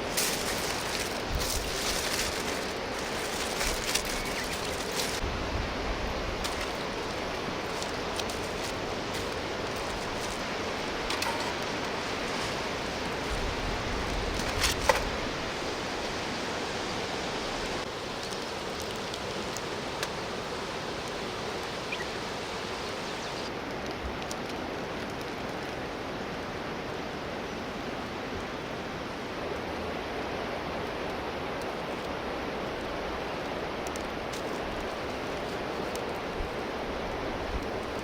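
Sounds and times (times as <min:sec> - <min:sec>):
river flowing: 0:00.0 - 0:38.0.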